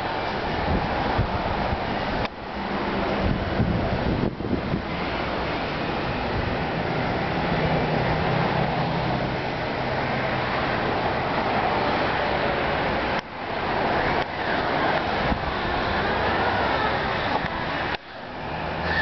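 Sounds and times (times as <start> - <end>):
road traffic noise: 0.0 - 19.0
vehicle engine hum: 0.0 - 19.0.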